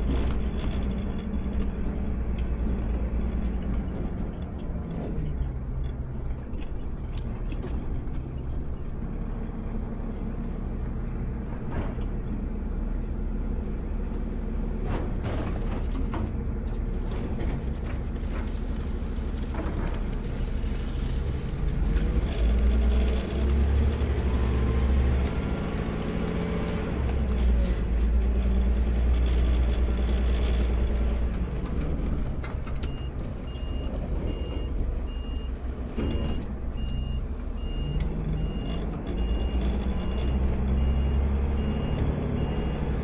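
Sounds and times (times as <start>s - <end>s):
diesel truck engine running: 0.0s - 43.0s.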